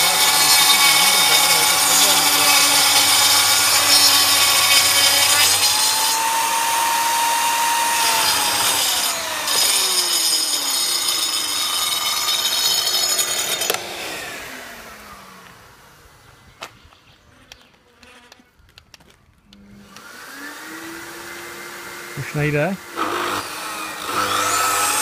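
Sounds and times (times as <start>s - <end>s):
circular saw cutting board: 0.0s - 16.5s, 19.8s - 25.0s
saw motor winding down: 0.0s - 16.5s, 19.7s - 25.0s.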